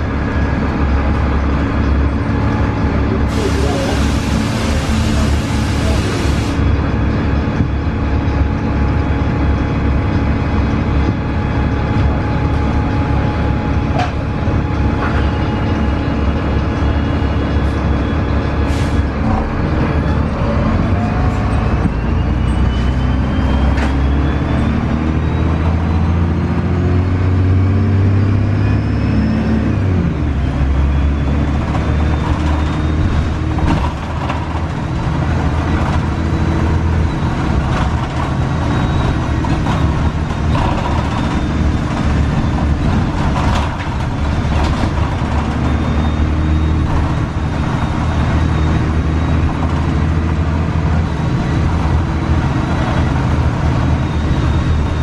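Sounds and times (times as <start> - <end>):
bus diesel engine pulling away: 0.0 - 55.0
road noise: 0.0 - 55.0.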